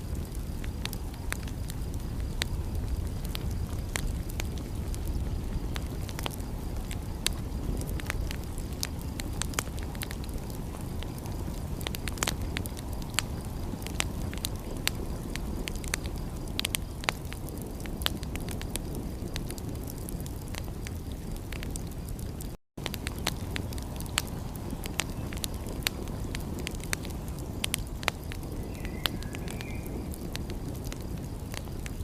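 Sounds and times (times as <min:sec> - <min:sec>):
fireplace fire crackling: 0:00.0 - 0:32.0.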